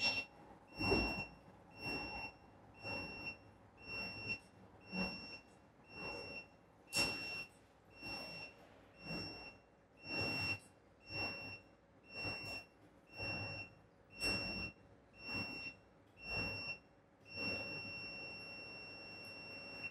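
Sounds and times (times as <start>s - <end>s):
continuous tone: 0.0s - 19.9s.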